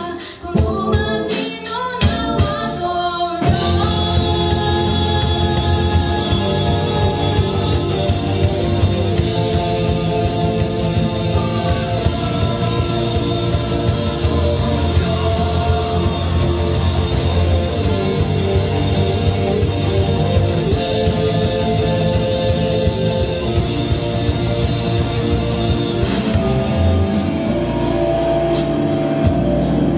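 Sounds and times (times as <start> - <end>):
drum kit: 0.0 - 29.9
electric guitar: 0.0 - 29.9
bass guitar: 2.0 - 29.9.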